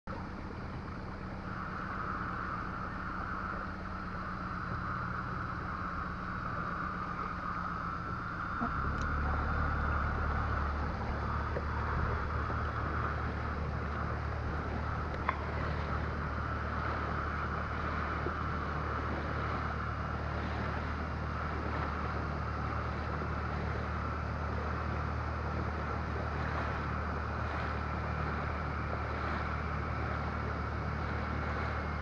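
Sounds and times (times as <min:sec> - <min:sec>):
outboard motor running: 0:00.1 - 0:32.0.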